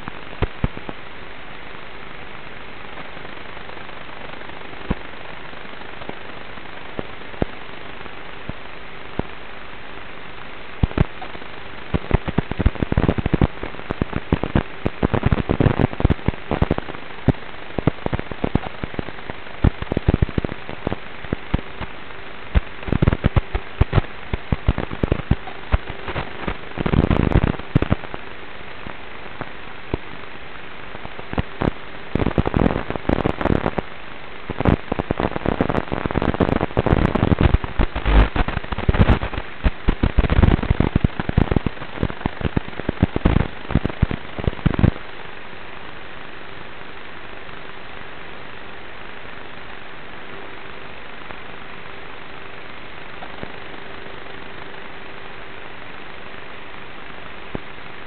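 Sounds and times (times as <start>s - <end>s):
steady hiss with faint hum: 0.0s - 58.0s.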